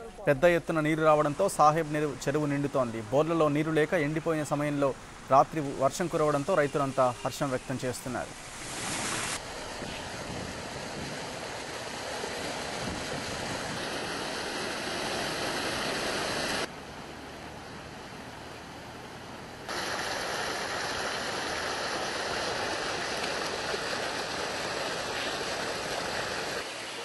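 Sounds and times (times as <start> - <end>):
stream rushing: 0.4 - 27.0.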